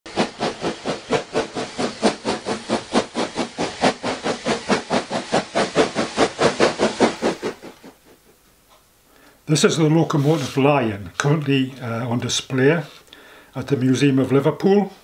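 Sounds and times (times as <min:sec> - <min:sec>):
steam locomotive chuffing: 0:00.1 - 0:08.4, 0:09.8 - 0:14.4.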